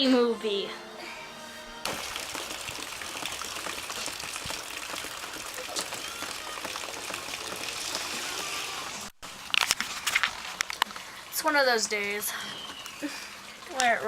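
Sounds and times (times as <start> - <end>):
steady rain falling: 1.9 - 14.0.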